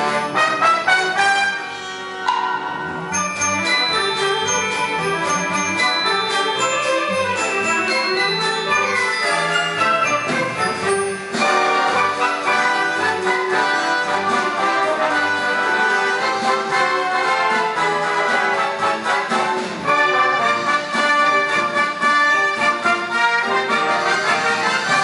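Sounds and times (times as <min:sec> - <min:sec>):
brass section: 0:00.0 - 0:25.0
orchestra playing: 0:00.0 - 0:25.0
strings: 0:00.0 - 0:25.0.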